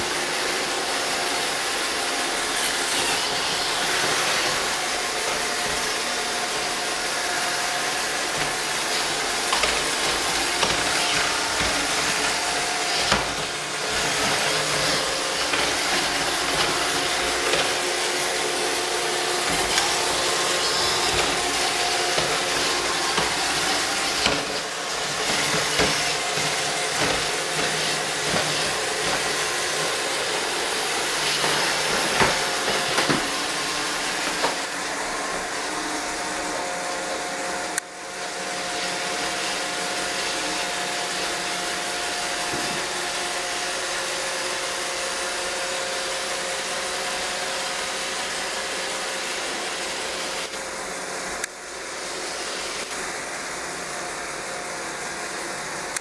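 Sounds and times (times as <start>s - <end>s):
robot vacuum whirring: 0.0s - 45.5s.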